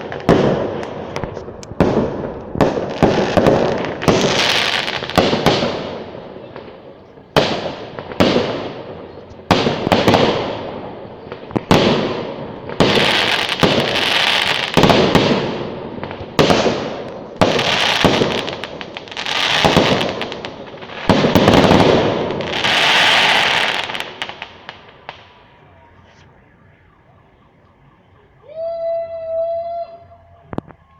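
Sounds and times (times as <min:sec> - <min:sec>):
fireworks crackling: 0:00.0 - 0:26.8
fireworks bangs: 0:00.0 - 0:26.9.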